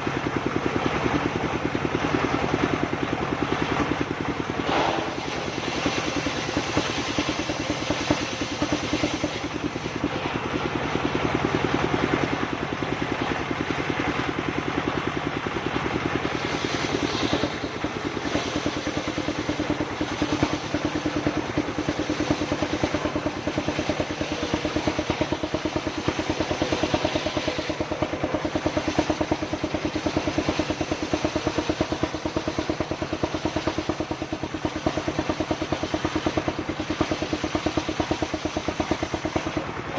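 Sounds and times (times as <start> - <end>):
sawing machine engine pulsing: 0.0 - 39.9.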